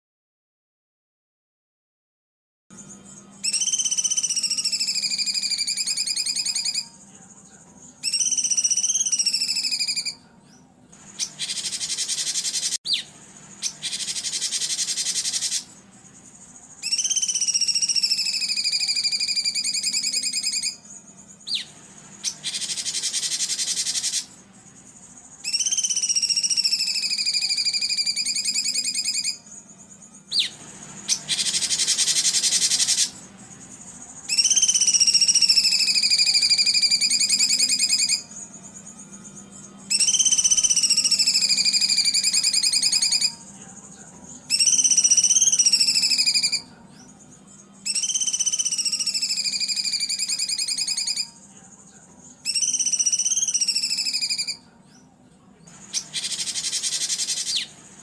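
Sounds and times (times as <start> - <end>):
songbird pulsed trill: 2.7 - 58.0
songbird buzzing rattle: 2.8 - 10.1, 11.0 - 54.5, 55.7 - 58.0.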